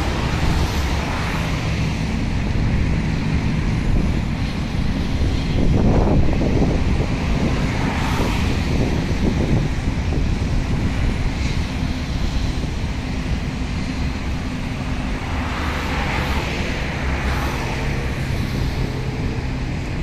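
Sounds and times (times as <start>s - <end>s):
distant jet airliner rumble: 0.0s - 20.0s
wind noise on microphone: 0.0s - 20.0s.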